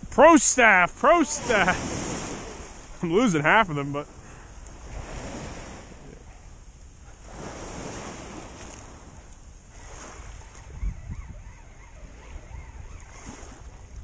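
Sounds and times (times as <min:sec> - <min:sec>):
waves washing: 0:00.0 - 0:10.8, 0:12.9 - 0:14.0
wind buffeting microphone: 0:00.8 - 0:03.1, 0:04.0 - 0:14.0.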